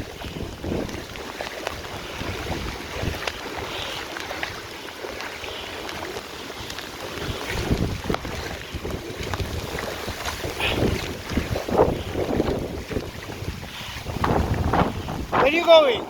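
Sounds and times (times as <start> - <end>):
wind buffeting microphone: 0.0 - 4.7, 5.4 - 16.0
floodwater rushing: 0.0 - 16.0.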